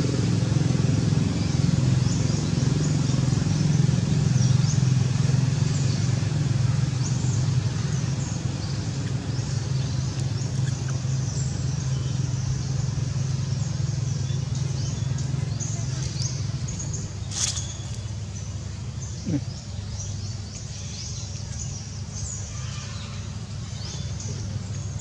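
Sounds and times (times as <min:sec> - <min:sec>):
low motor drone: 0:00.0 - 0:25.0.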